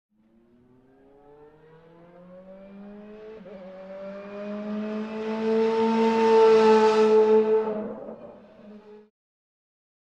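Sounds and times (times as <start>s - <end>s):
car engine accelerating: 0.3s - 9.1s.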